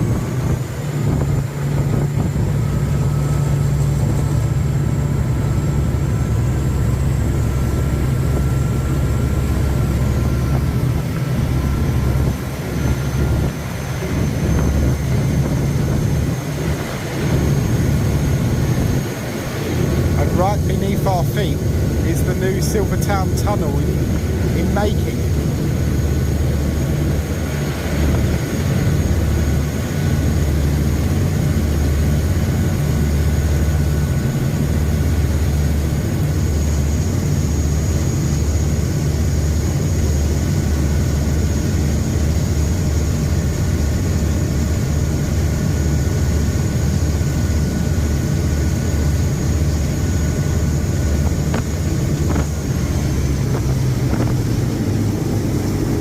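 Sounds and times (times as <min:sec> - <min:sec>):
boat engines droning: 0:00.0 - 0:56.0
faint high whine: 0:00.0 - 0:56.0.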